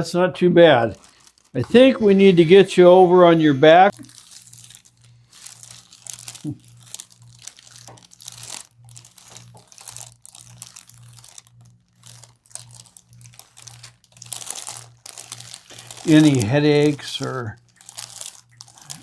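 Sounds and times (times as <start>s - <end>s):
rustling and crinkling on table: 0.9s - 2.9s, 3.9s - 19.0s.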